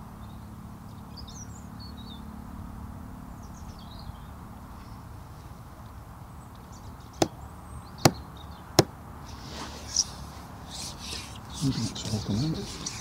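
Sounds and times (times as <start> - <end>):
small birds chirping: 0.0 - 2.6, 3.3 - 13.0
low steady background noise: 0.0 - 13.0.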